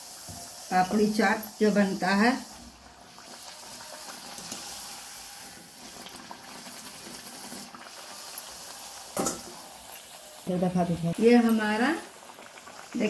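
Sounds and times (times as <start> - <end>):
hot oil sizzling and bubbling: 0.0 - 13.0.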